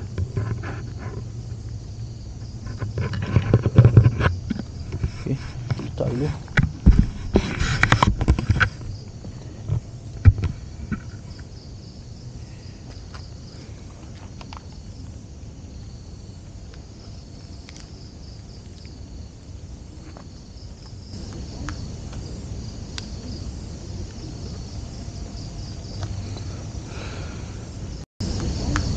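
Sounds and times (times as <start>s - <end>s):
crickets trilling: 0.0s - 28.9s.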